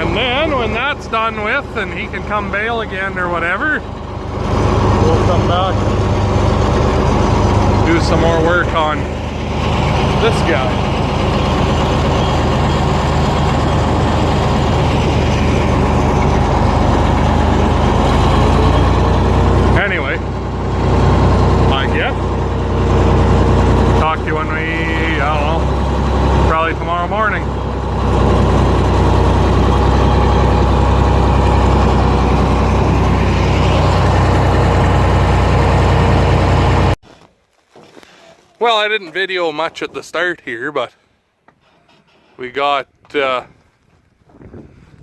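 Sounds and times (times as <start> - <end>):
heavy vehicle engine running: 0.0 - 37.0.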